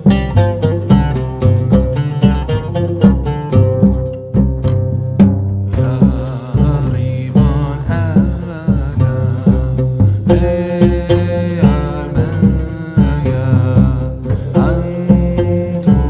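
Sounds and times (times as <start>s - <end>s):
plucked strings: 0.0s - 16.0s
steady beat: 0.0s - 16.0s.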